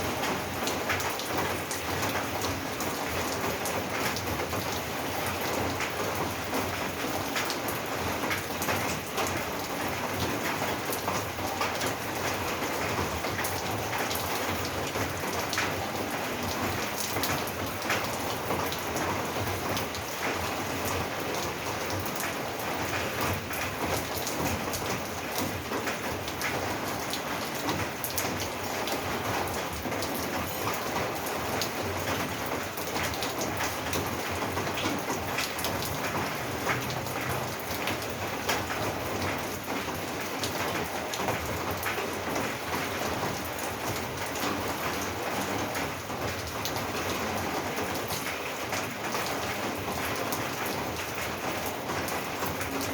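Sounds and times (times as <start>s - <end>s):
rain on a roof: 0.0s - 52.9s.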